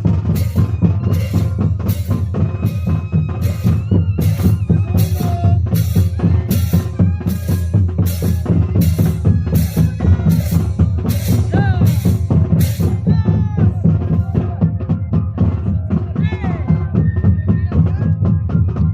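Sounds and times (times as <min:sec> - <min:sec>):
bass drums and snare drums: 0:00.0 - 0:18.9.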